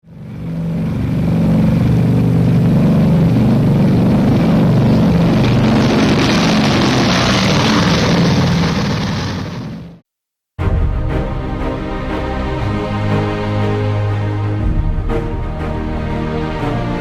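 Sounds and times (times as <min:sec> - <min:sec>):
propeller aircraft engines droning: 0:00.1 - 0:09.8, 0:10.7 - 0:17.0.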